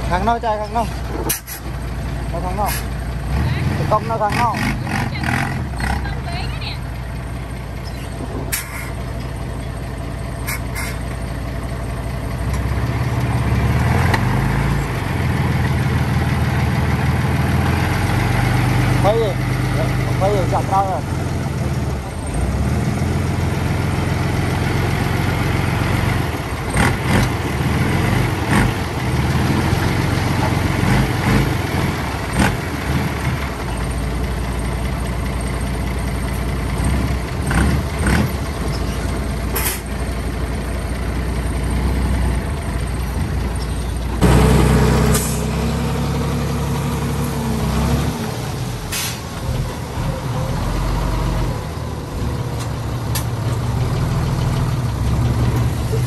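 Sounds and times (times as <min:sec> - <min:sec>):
diesel dump trucks running: 0:00.0 - 0:56.0.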